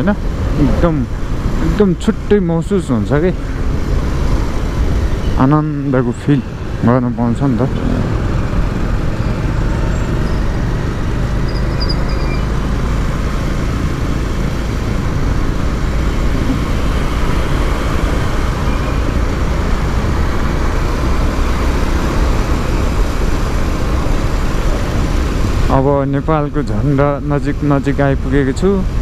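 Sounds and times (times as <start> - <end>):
motorcycle road noise: 0.0 - 29.0.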